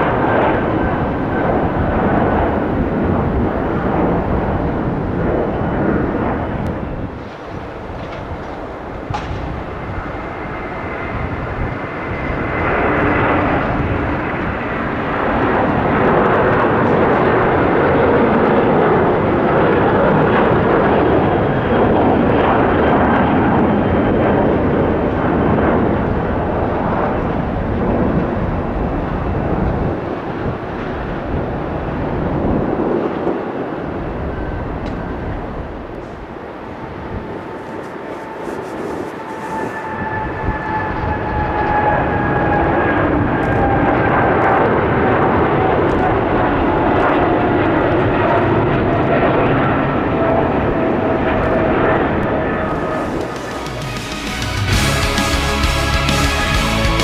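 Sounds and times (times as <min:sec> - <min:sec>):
jet airliner engines passing: 0:00.0 - 0:57.0.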